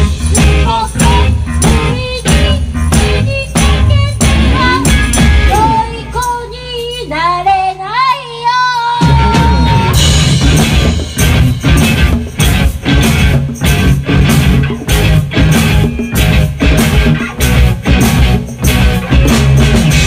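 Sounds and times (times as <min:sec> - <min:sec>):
drum beat: 0:00.0 - 0:05.8, 0:09.0 - 0:20.0
rock band playing: 0:00.0 - 0:06.9, 0:09.0 - 0:20.0.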